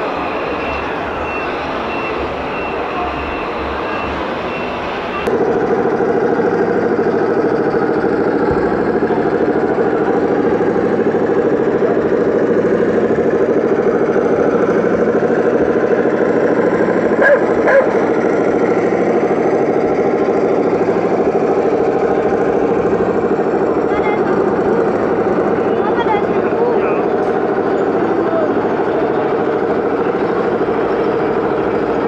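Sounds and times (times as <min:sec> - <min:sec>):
model vehicle engine pulsing: 0:00.0 - 0:32.0.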